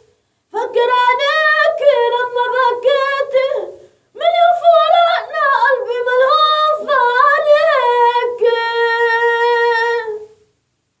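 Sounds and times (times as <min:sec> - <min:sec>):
high voice singing unaccompanied: 0:00.0 - 0:10.4.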